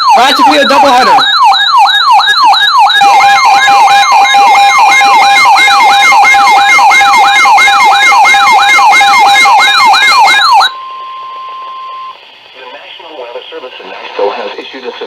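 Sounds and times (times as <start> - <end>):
electronic siren alarm yelping: 0.0 - 12.2
steady electronic tones: 0.0 - 12.6.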